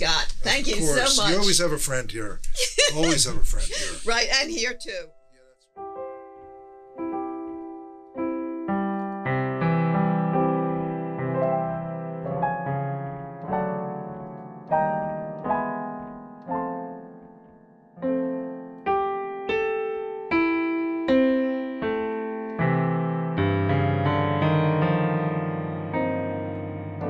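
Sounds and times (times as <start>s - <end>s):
solo piano music: 4.1s - 27.0s.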